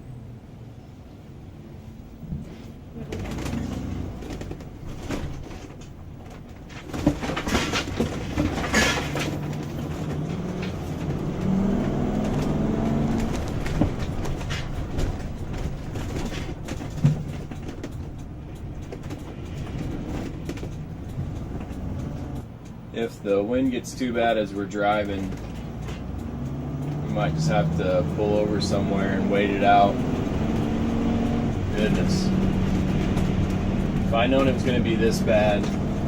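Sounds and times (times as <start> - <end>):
engine and road noise: 0.0 - 36.0
rattles and knocks: 2.4 - 22.8, 24.8 - 36.0.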